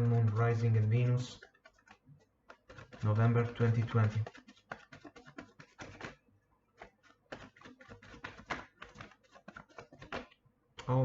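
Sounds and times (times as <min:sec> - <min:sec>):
cards clicking and flicking: 0:00.0 - 0:06.2, 0:06.8 - 0:11.0.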